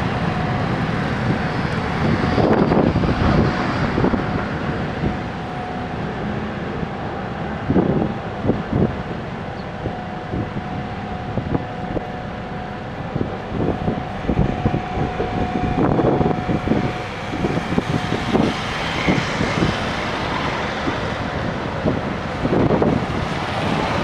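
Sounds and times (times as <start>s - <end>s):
faint steady whine: 0.0s - 24.0s
motor grader engine running: 0.0s - 24.0s.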